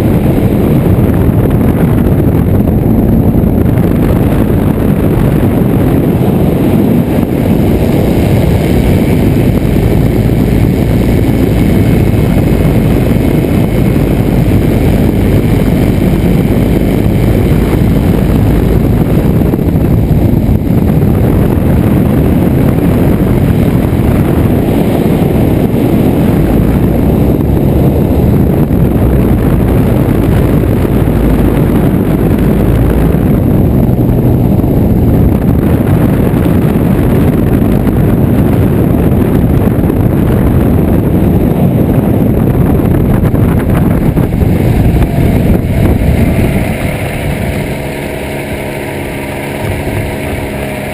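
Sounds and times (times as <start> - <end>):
aircraft engine humming: 0.0 - 50.9
wind rush on microphone: 0.0 - 50.9.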